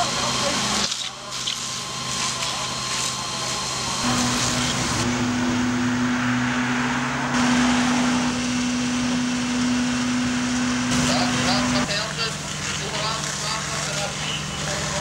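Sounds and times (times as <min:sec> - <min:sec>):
fire engine pumps running: 0:00.0 - 0:15.0.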